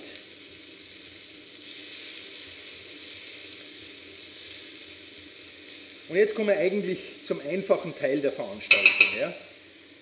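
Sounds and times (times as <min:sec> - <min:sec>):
onion and tomato sizzling in pot: 0:00.0 - 0:10.0.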